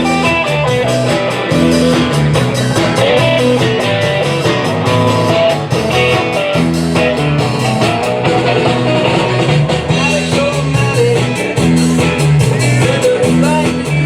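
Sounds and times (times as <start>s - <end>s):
electric guitar: 0.0s - 14.0s
live band playing: 0.0s - 14.0s
steady drum beat: 0.0s - 14.0s.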